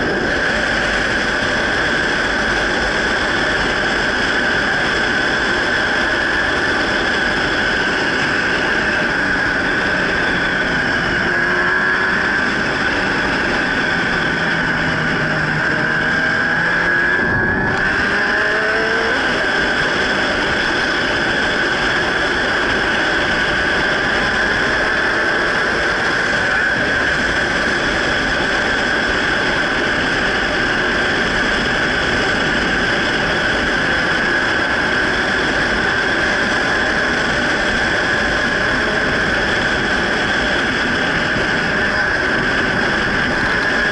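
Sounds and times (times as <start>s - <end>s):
motorcycle engine: 0.0s - 43.9s
wind noise on microphone: 0.0s - 43.9s.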